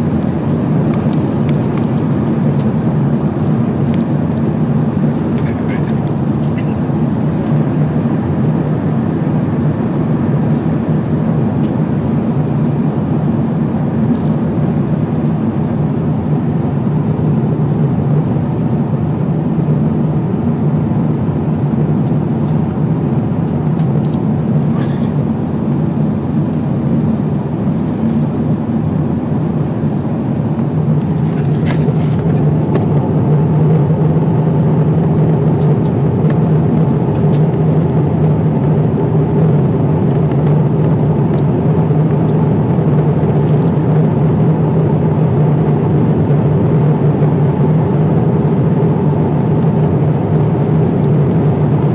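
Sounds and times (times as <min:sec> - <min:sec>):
airplane cabin roar: 0:00.0 - 0:51.9.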